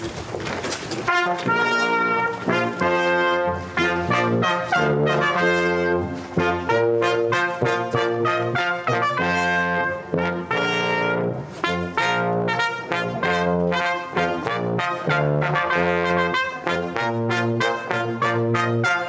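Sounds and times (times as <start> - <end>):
brass instruments playing chords: 1.0 - 19.0.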